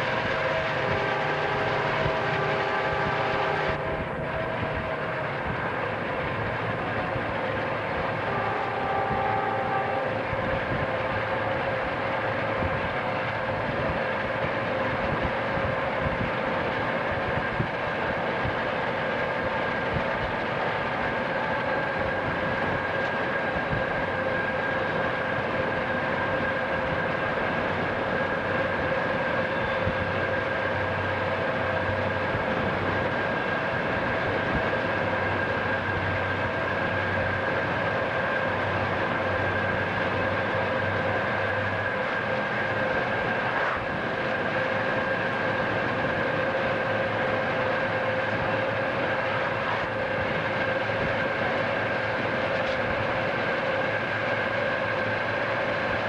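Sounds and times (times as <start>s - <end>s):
car road and wind noise: 0.0s - 56.0s
diesel locomotives running: 0.0s - 56.0s
high whine: 0.0s - 56.0s.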